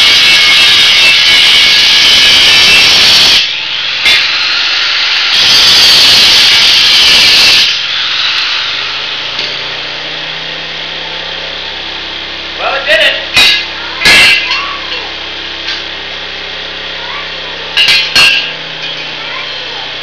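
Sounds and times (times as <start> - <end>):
angle grinder cutting steel: 0.0 - 20.0
small generator running: 0.0 - 20.0.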